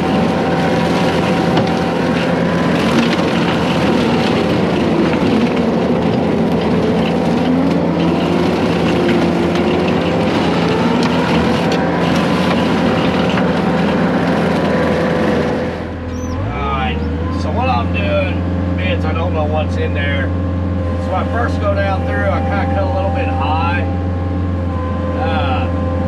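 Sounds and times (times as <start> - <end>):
excavator diesel engine: 0.0 - 26.0
hydraulic brush cutter whining: 0.0 - 26.0.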